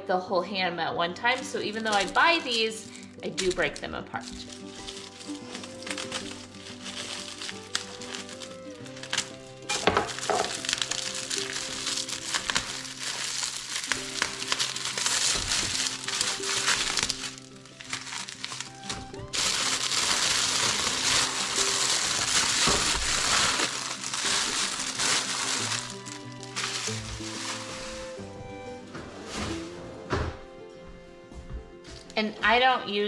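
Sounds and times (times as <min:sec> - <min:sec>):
background music: 0:00.0 - 0:33.0
foil wrapper crinkling: 0:01.2 - 0:28.3.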